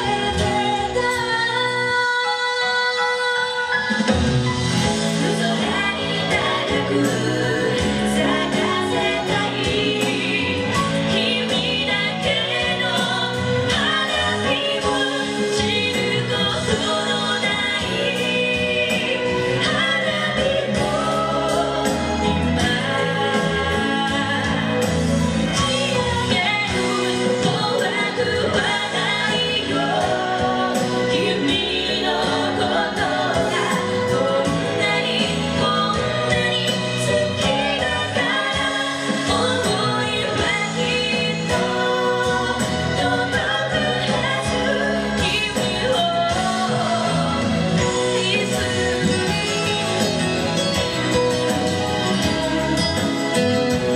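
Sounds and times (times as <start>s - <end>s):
live pop song with singing: 0.0s - 53.9s.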